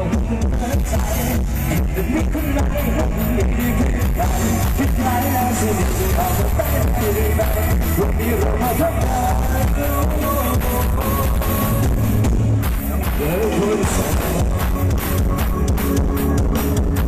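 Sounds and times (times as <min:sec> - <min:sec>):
person singing: 0:00.0 - 0:12.3, 0:12.9 - 0:15.4
loud music with heavy bass: 0:00.0 - 0:17.0.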